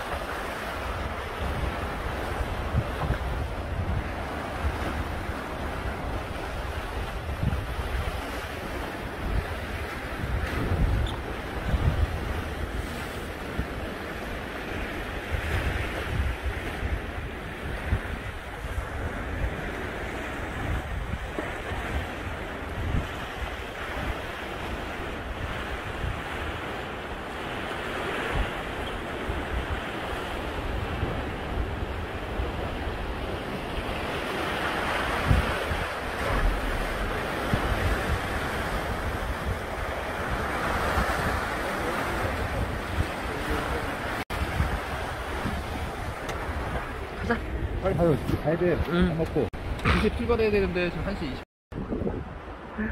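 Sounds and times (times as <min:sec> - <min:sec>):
surf washing against rocks: 0:00.0 - 0:52.9
wind buffeting microphone: 0:00.0 - 0:52.9.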